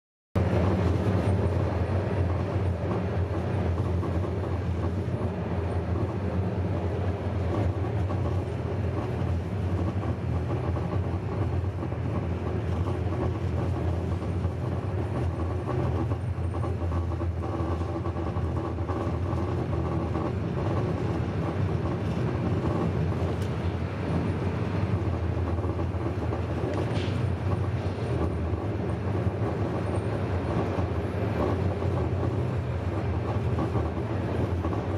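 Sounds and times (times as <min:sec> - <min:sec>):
train wheels rumbling on rails: 0:00.4 - 0:34.9.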